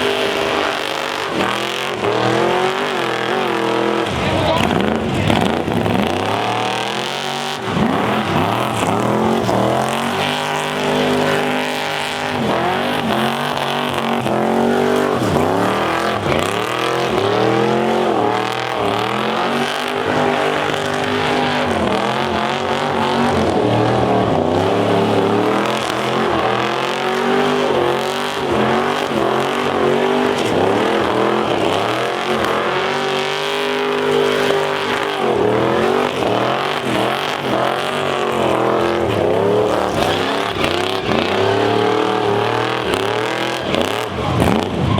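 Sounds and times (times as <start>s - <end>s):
tyres screeching: 0.0s - 23.4s, 24.6s - 44.9s
car engine revving hard: 0.0s - 44.9s.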